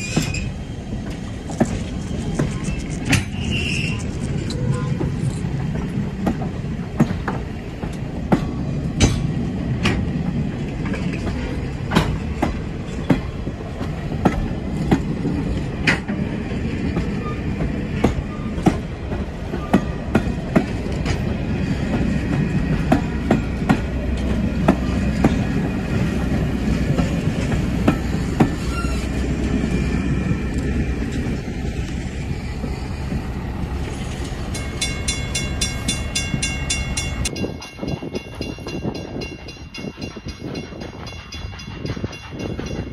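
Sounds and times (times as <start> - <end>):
train coaches rumbling past: 0.0 - 42.9.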